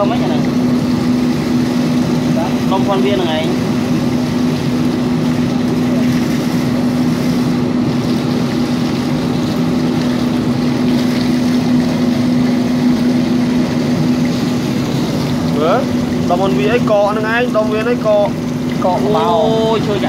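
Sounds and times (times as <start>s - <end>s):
motor hum: 0.0s - 20.0s
water splashing from garden hose: 0.0s - 20.0s.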